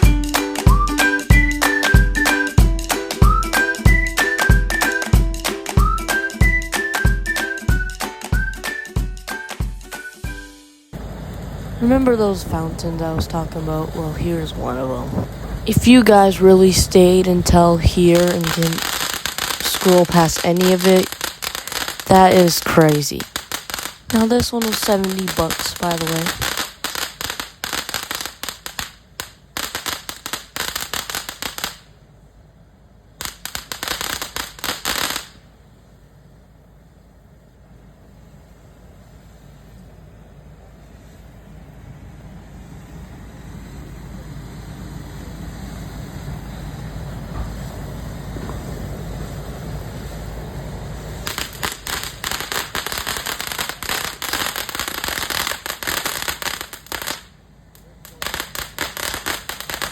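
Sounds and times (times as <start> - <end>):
firework fountain crackling: 0.0 - 10.2, 10.9 - 32.0, 33.1 - 35.6, 38.4 - 59.9.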